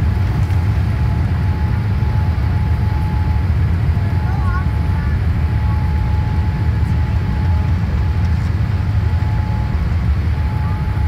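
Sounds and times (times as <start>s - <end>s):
aircraft cabin rumble: 0.0s - 11.0s
faint steady whine: 0.0s - 11.0s.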